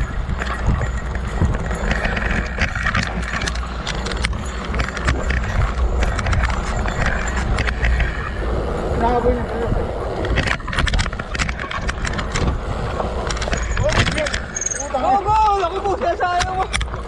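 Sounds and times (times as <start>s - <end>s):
bike rattling over bumps: 0.0s - 17.0s
knobby tyre noise: 0.0s - 17.0s
wind rumble on camera: 0.0s - 17.0s.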